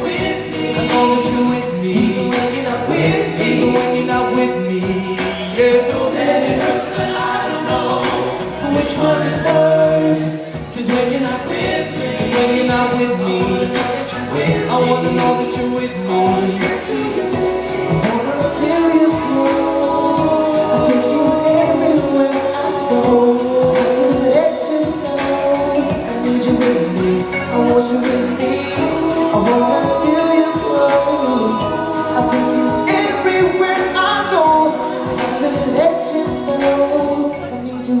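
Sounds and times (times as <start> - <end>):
music: 0.0 - 38.0
vocal group singing in harmony: 0.0 - 38.0.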